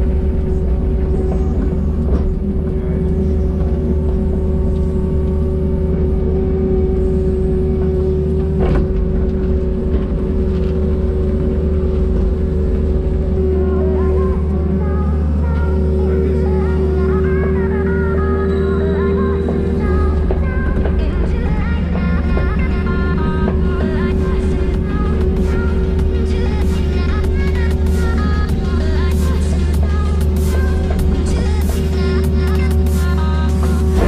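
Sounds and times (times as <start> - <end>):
diesel engine droning: 0.0 - 34.0
music: 0.0 - 34.0.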